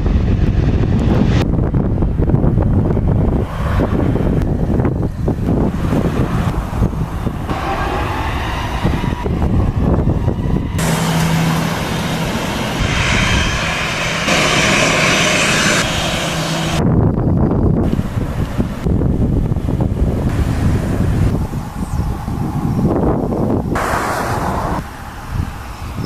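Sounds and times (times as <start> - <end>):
jet engines at takeoff: 0.0 - 26.0
wind buffeting microphone: 0.0 - 26.0.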